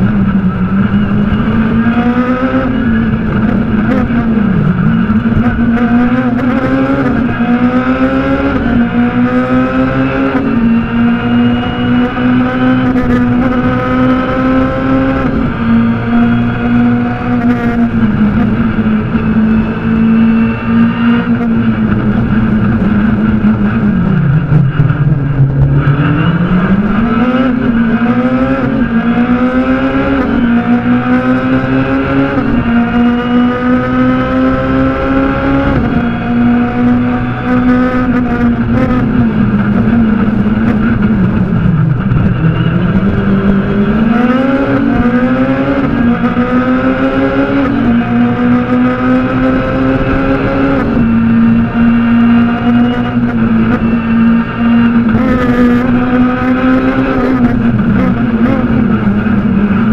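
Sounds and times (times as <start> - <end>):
rally car engine at high revs: 0.0 - 59.9.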